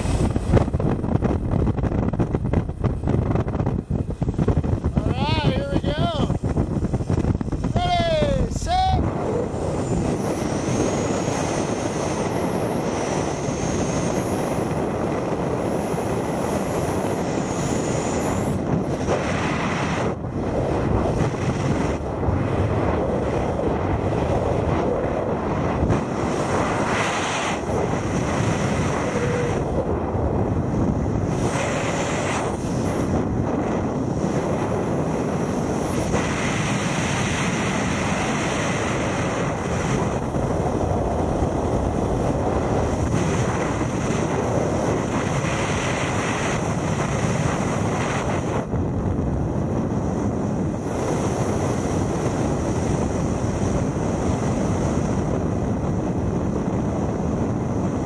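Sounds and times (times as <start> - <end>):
wind roaring over microphone: 0.0 - 58.0.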